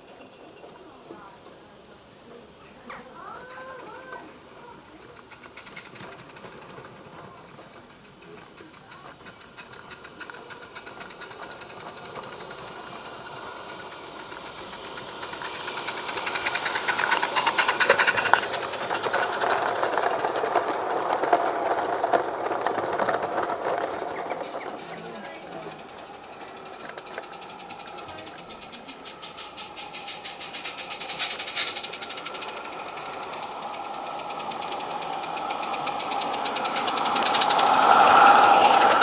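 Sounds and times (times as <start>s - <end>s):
train wheels clattering on rails: 0.0s - 1.6s, 2.3s - 39.0s
steam locomotive chuffing: 0.0s - 39.0s.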